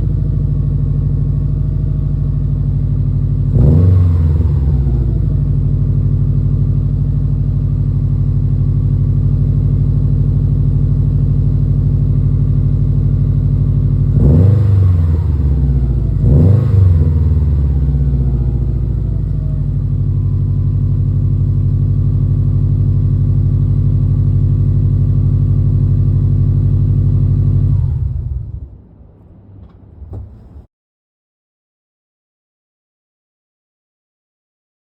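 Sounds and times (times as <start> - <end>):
car engine idling and revving: 0.0 - 30.7.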